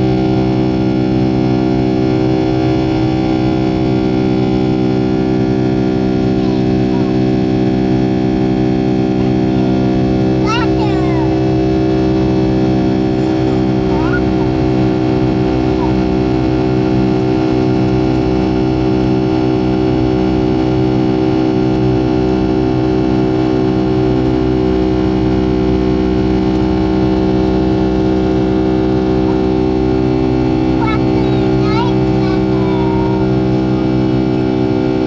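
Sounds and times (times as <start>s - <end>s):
jet engines droning in cabin: 0.0s - 35.0s.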